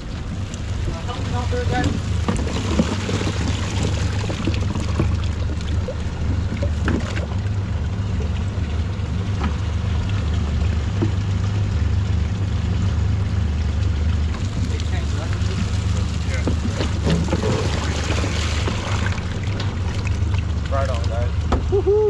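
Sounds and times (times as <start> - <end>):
boat engine idling: 0.0 - 22.0
water splashing: 0.0 - 22.0.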